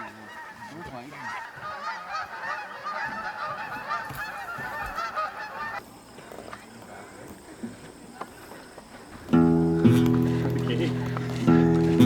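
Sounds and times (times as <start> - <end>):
flock of birds calling: 0.0 - 12.0.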